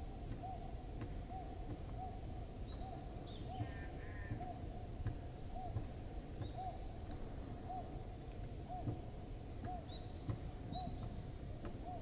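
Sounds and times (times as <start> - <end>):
woodpecker tapping: 0.3 - 7.9, 8.8 - 12.0.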